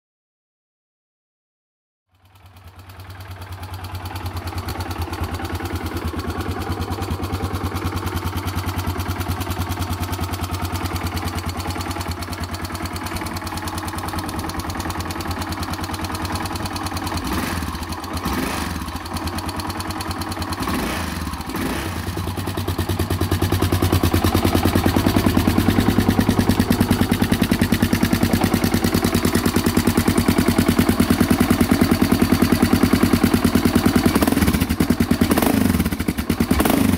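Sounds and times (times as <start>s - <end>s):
motorcycle engine idling: 2.1s - 36.9s.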